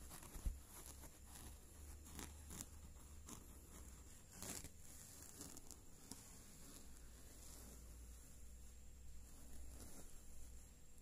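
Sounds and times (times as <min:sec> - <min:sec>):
kittens rustling on bedding: 0:00.0 - 0:11.0.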